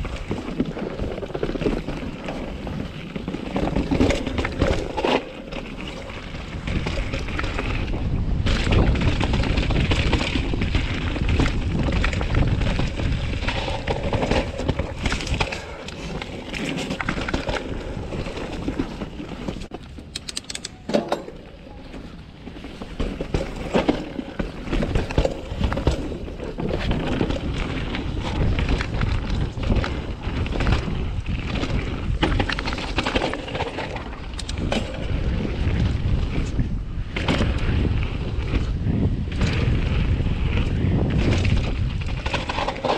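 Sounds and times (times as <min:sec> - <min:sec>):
tyres rolling over dirt: 0:00.0 - 0:20.1, 0:20.8 - 0:42.9
wind buffeting microphone: 0:00.0 - 0:20.1, 0:21.4 - 0:42.9
bike knocking and rattling: 0:00.0 - 0:42.9.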